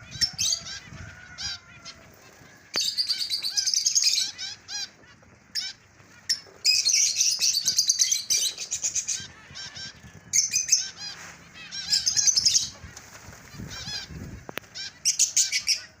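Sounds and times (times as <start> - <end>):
finches calling: 0.0 - 16.0.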